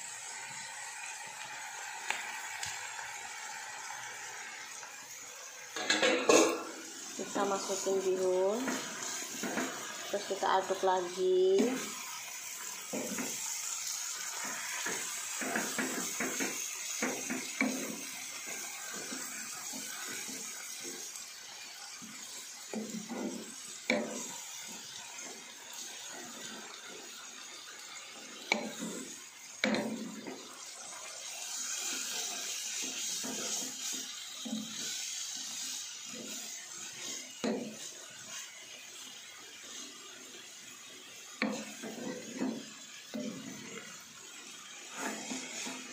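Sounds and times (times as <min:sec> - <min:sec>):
noodles sizzling in a pan: 0:00.0 - 0:45.9
spatula scraping a pan: 0:05.7 - 0:45.9.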